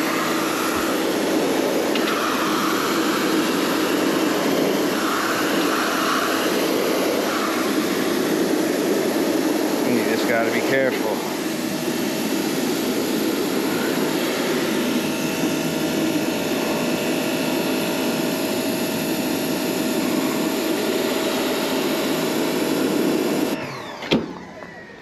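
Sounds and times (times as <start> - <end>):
pressure washer water spray: 0.0 - 23.6
machine running: 0.0 - 25.0.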